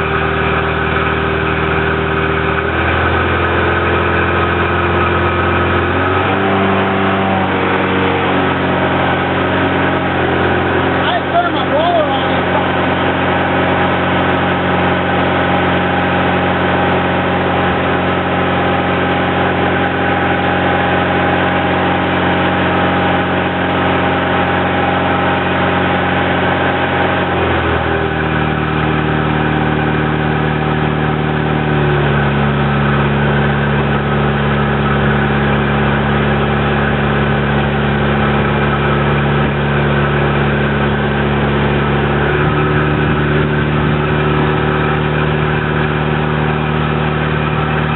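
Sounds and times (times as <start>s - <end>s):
engine running drone: 0.0s - 47.9s.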